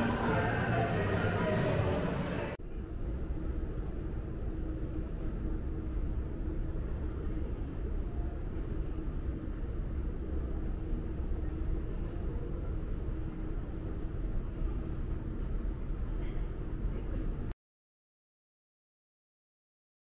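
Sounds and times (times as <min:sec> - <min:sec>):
faint hum: 0:00.0 - 0:17.6
low rumble of indoor space: 0:00.0 - 0:17.6.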